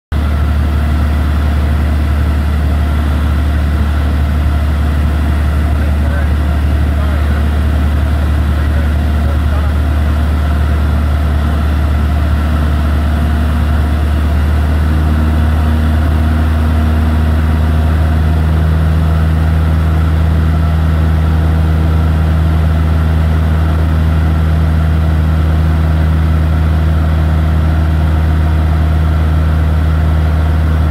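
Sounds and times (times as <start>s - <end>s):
aircraft engine and propeller droning: 0.1s - 30.9s.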